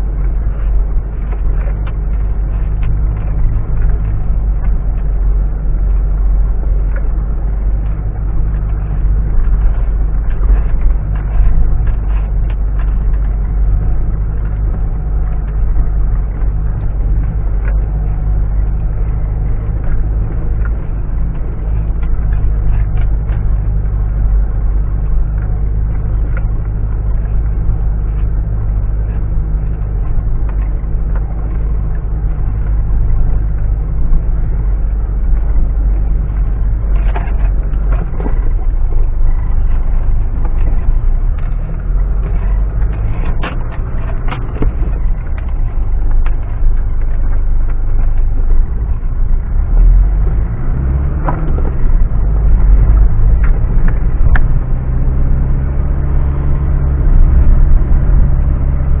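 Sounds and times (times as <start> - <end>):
car engine droning: 0.0 - 59.0
knocks and clatters: 0.0 - 59.0.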